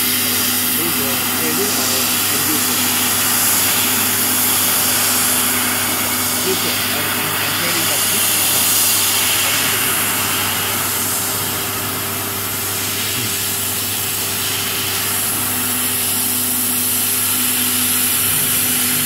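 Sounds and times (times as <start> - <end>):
laser cutting head hissing: 0.0 - 19.0
low machine hum: 0.0 - 19.0.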